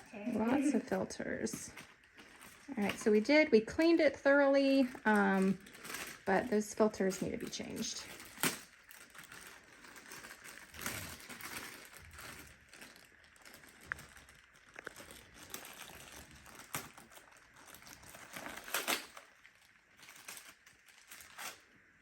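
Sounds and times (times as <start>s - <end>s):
plastic crinkling: 0.0s - 22.0s.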